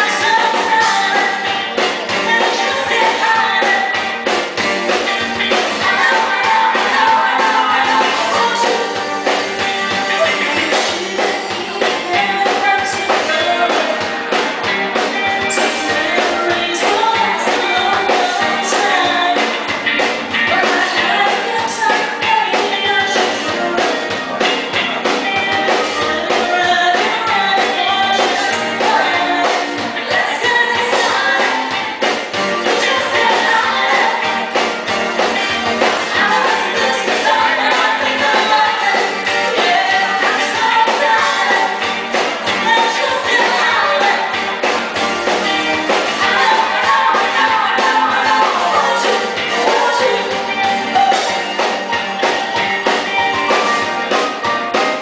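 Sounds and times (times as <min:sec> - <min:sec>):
woman singing lead: 0:00.0 - 0:54.5
drums: 0:00.0 - 0:55.0
electric guitar: 0:00.0 - 0:55.0.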